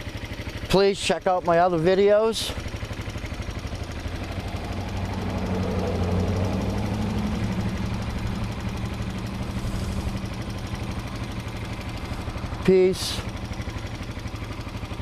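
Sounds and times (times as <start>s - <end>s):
atv engine idling: 0.0s - 15.0s.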